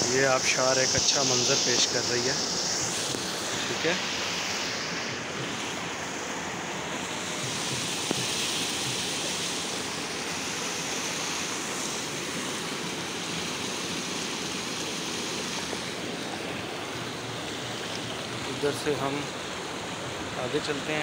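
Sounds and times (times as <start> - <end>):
waterfall rushing and splashing: 0.0 - 21.0.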